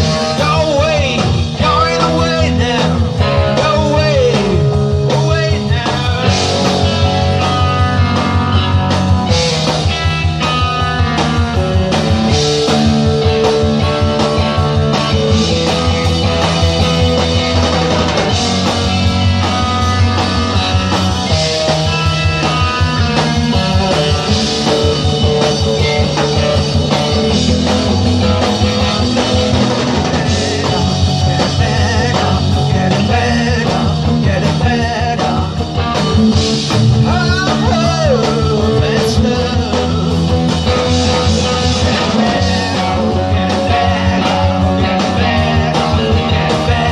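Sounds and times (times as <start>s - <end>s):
bent electric guitar notes: 0.0s - 46.9s
rock band playing live: 0.0s - 46.9s.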